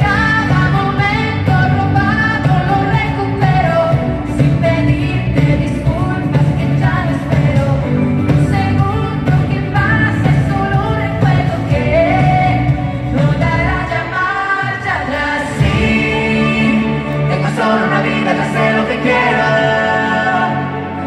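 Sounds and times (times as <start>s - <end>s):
live pop band playing: 0.0s - 21.0s
woman singing: 0.0s - 21.0s.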